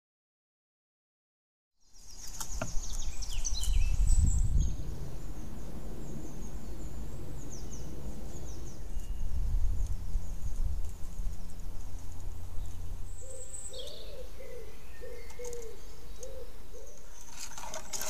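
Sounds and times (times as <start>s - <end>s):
songbirds chirping: 1.8s - 18.0s.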